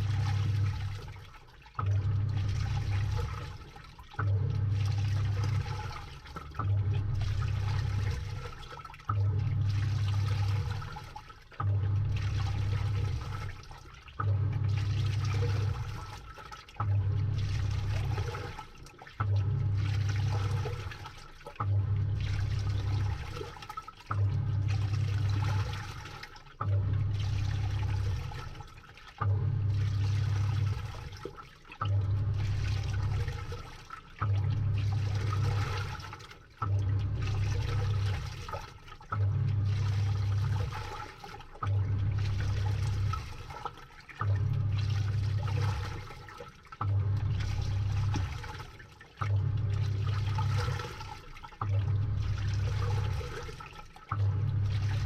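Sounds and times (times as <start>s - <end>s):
washing machine motor hum: 0.0s - 55.0s
water sloshing: 0.0s - 55.0s.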